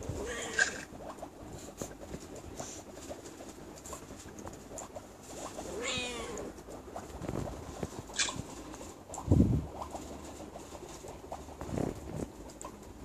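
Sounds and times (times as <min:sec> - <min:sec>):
faint rustling and ticking: 0:00.0 - 0:13.0.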